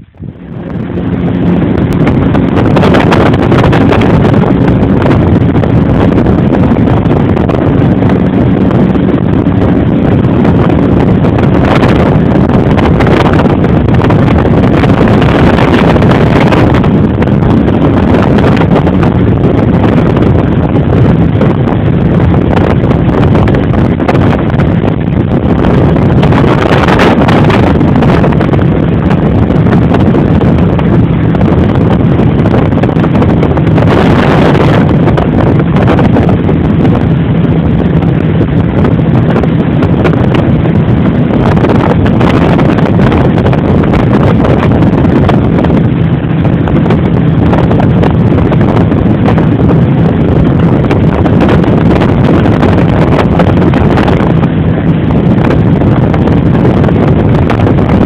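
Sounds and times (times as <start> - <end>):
low engine drone: 0.0 - 58.0
wind buffeting microphone: 0.0 - 58.0.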